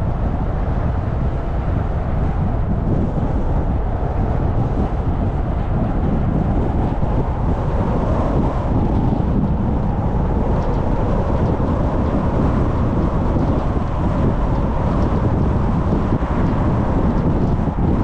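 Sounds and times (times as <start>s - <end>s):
tyre and road rumble: 0.0s - 18.0s
wind buffeting microphone: 0.0s - 18.0s.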